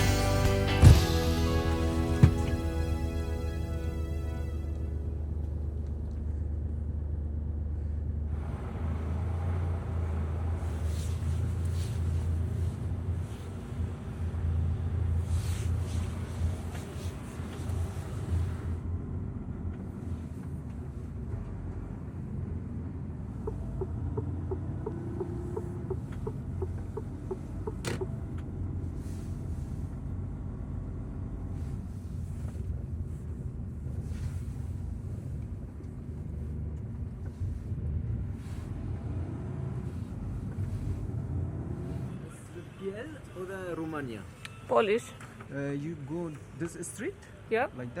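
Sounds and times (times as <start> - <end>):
truck engine rumbling: 0.0 - 44.0.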